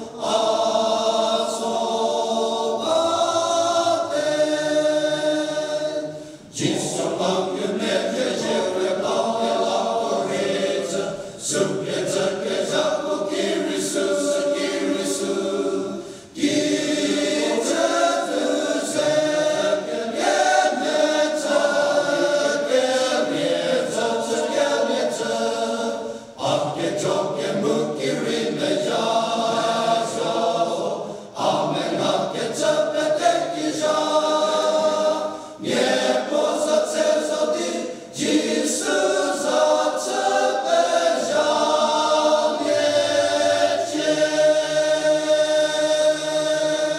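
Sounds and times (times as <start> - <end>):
men's choir singing: 0.0 - 46.9.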